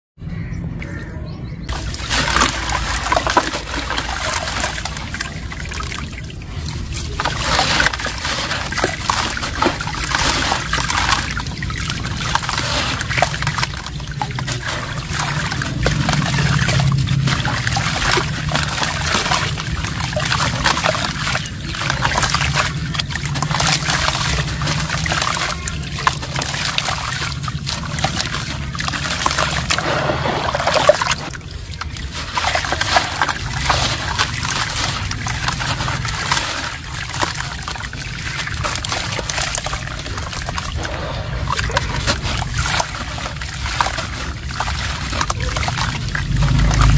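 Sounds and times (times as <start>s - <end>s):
cement grains pattering into water: 1.7s - 46.9s
small splashes and crunches: 1.7s - 46.9s.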